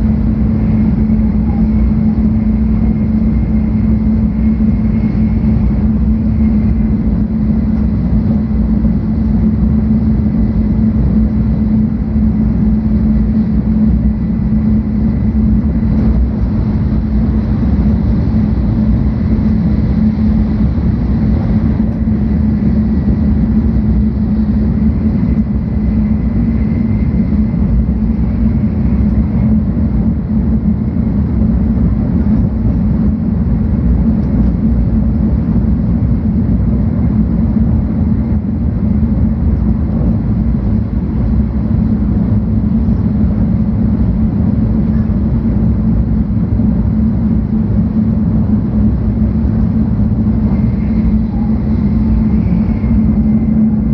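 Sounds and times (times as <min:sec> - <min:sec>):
train cabin running noise: 0:00.0 - 0:53.9.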